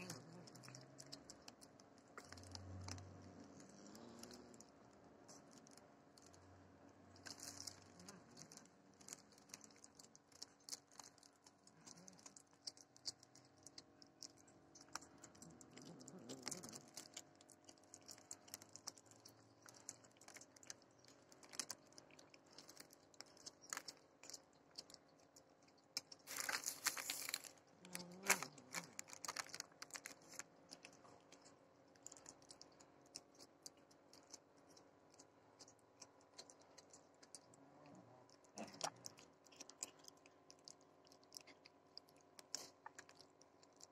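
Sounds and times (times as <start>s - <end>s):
cat chewing raw meat: 0.0s - 43.9s.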